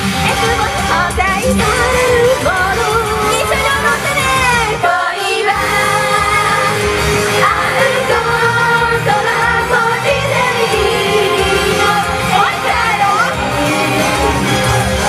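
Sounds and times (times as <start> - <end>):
loud pop backing track: 0.0 - 15.0
women singing into microphones: 0.1 - 15.0.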